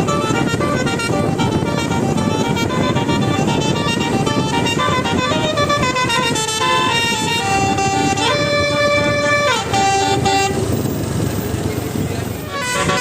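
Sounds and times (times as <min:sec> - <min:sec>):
musical vehicle horn tune: 0:00.0 - 0:11.0, 0:12.4 - 0:13.0
traffic rumble: 0:00.0 - 0:13.0.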